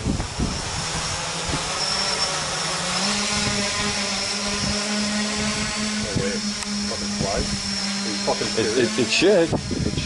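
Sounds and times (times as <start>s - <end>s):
drone propellers whining: 0.0s - 10.0s.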